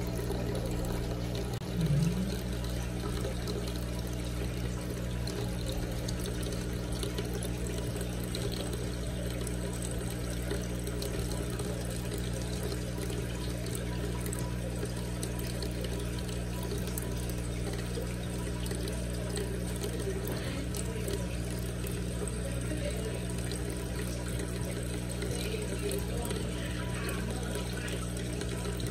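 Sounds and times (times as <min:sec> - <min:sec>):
aquarium equipment hum: 0:00.0 - 0:28.9
water trickling: 0:00.0 - 0:28.9.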